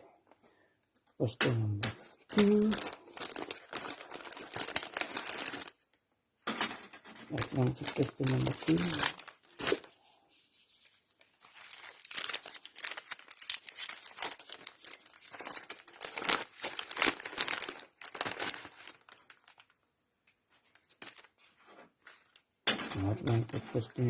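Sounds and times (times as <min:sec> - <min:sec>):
packaging crinkling: 0:01.5 - 0:06.0, 0:07.2 - 0:10.0, 0:10.7 - 0:19.9, 0:20.6 - 0:24.0.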